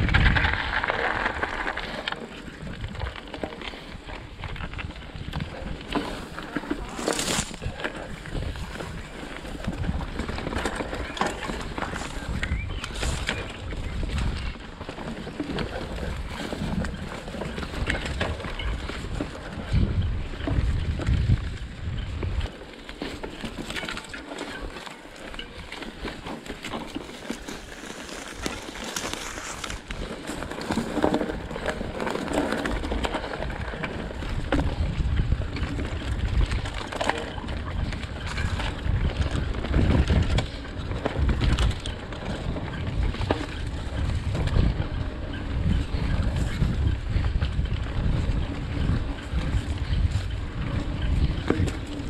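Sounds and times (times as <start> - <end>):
bike rattling over bumps: 0.0 - 52.0
bike tyres rolling on dirt: 0.0 - 52.0
wind buffeting microphone: 0.0 - 52.0.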